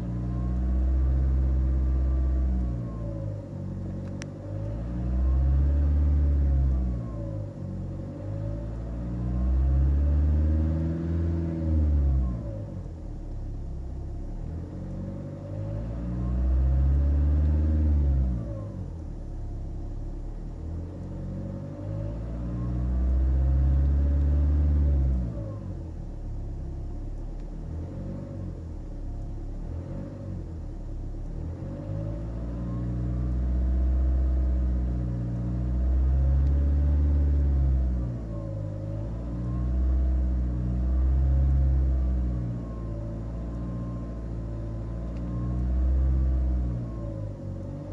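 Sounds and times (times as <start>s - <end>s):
diesel engine revving: 0.0s - 13.1s, 13.8s - 47.9s.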